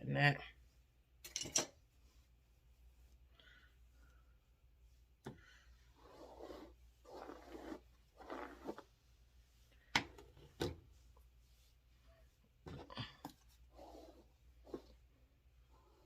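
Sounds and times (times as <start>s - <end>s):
brush rubbing over wig hair: 1.8s - 16.0s.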